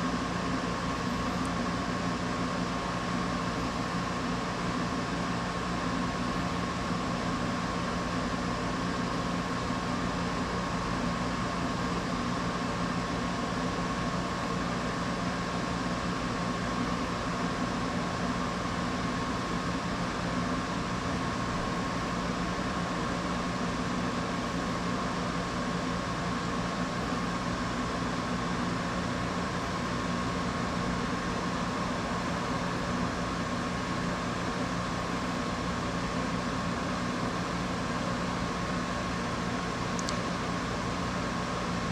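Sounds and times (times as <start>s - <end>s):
machine hum with whine: 0.0s - 41.9s.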